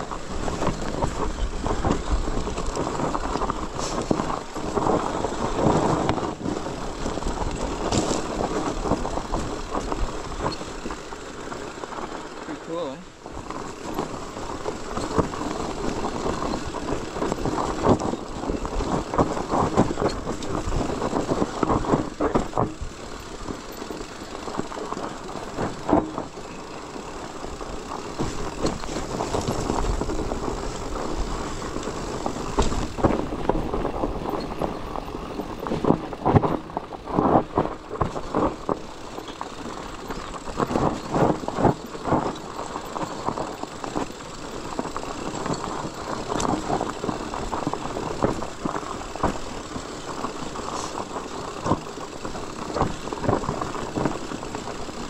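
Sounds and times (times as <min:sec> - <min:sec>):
bike and bags rattling: 0:00.0 - 0:55.0
bike tyre noise: 0:00.0 - 0:55.0.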